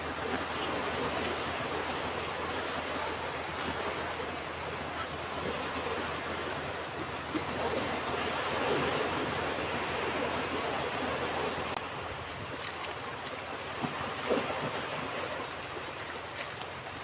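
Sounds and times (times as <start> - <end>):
ocean waves breaking on a beach: 0.0 - 17.0.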